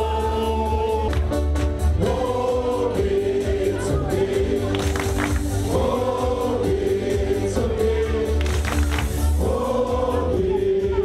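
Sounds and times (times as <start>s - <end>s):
heavy steady bass: 0.0s - 11.0s
group singing long held notes: 1.9s - 11.0s.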